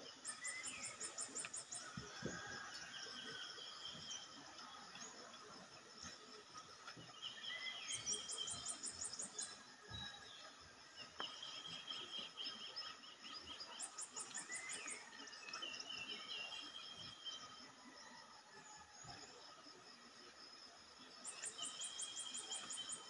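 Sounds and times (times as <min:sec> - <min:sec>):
birds singing and chirping: 0:00.0 - 0:17.4, 0:21.2 - 0:23.0.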